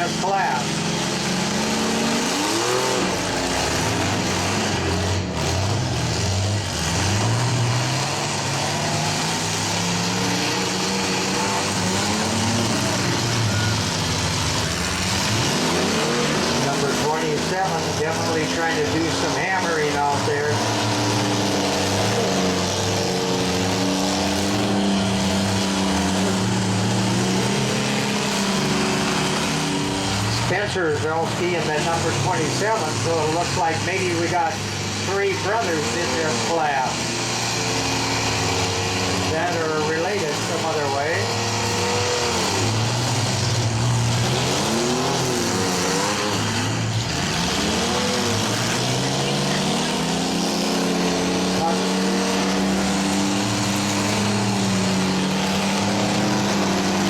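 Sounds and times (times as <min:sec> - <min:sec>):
engines revving: 0:00.0 - 0:57.0.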